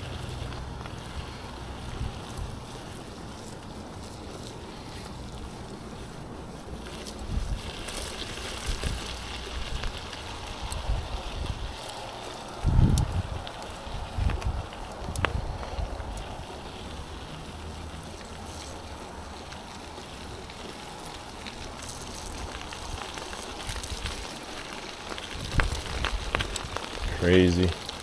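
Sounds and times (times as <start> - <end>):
wind buffeting microphone: 0.0 - 18.2, 18.8 - 28.0.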